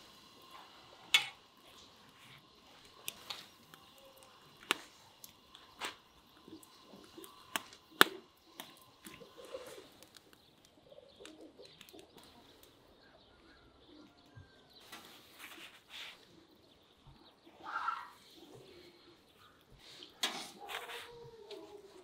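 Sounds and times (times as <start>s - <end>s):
faint bird chirps: 1.7s - 22.0s.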